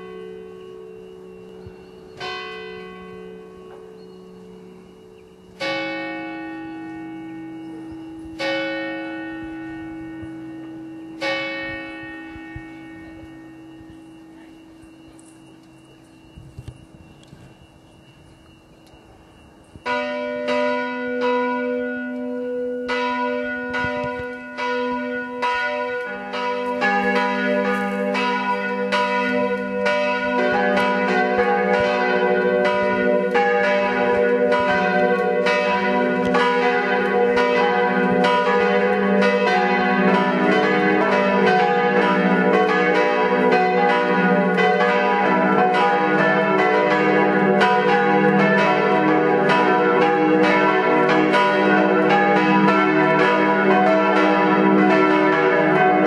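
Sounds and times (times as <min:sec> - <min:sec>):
church bells ringing a peal: 0:00.0 - 0:56.0.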